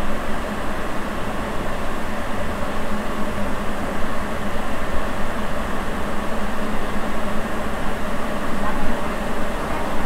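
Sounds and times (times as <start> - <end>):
subway train running in tunnel: 0.0 - 10.0.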